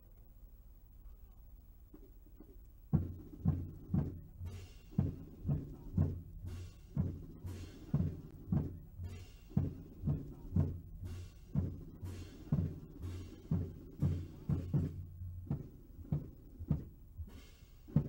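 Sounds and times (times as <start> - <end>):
military drums beating slow cadence: 1.9 - 18.0.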